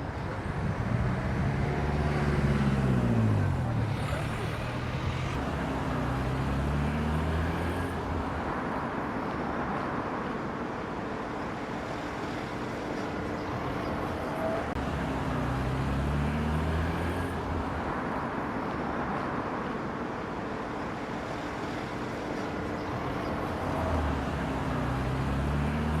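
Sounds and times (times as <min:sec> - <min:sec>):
road hum: 0:00.0 - 0:26.0
vehicles passing: 0:00.0 - 0:26.0.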